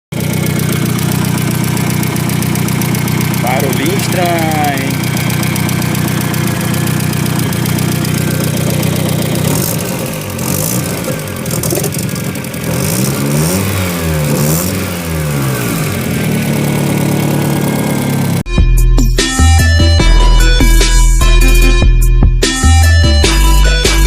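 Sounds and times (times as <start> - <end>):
car engine idling and revving: 0.1 - 24.0.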